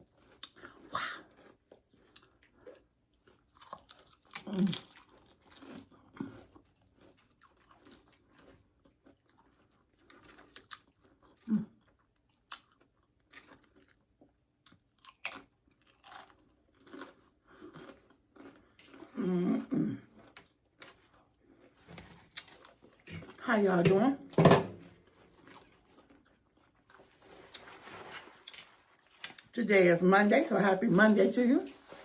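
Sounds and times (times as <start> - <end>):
chewing and crunching chips: 0.0 - 23.5, 25.0 - 32.0.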